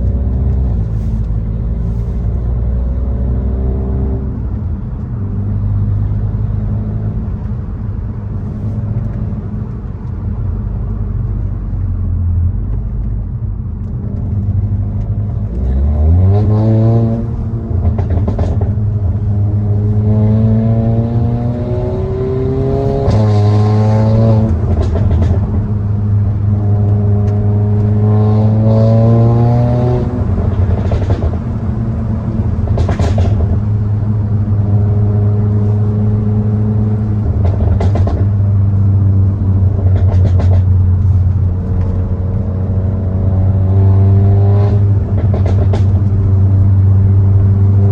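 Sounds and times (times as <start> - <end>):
car engine and exhaust accelerating: 0.0 - 47.9.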